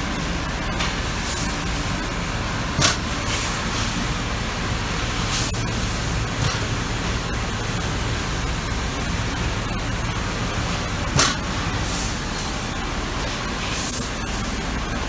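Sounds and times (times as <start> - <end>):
hydraulic pump hiss and hum: 0.0 - 15.0.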